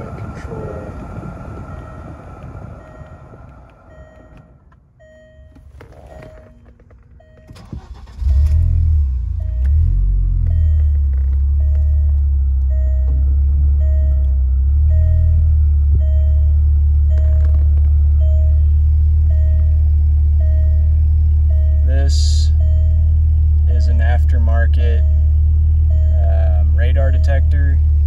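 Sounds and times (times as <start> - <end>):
car engine starting and idling: 0.0 - 28.0.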